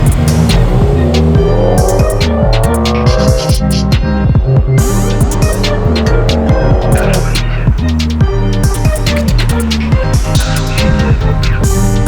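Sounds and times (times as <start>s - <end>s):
electronic music with heavy bass: 0.0s - 12.0s
rising synth sweep: 0.0s - 12.0s.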